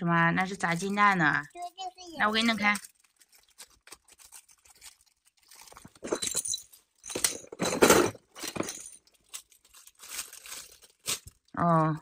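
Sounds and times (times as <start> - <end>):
plastic packet crinkling: 0.3 - 7.0, 8.8 - 12.0.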